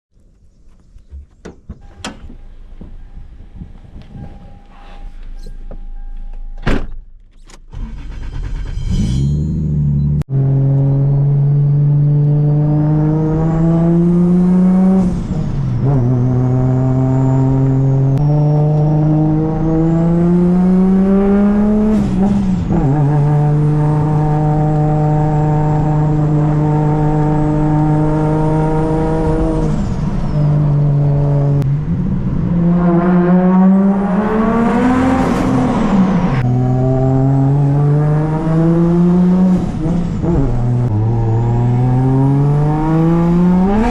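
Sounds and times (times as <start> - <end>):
car engine accelerating through gears: 7.7 - 43.9.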